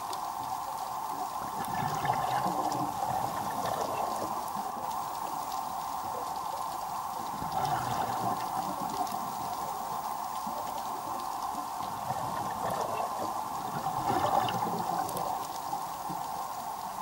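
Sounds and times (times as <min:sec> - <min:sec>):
faint crackling clicks: 0:00.0 - 0:17.0
underwater hiss: 0:00.0 - 0:17.0.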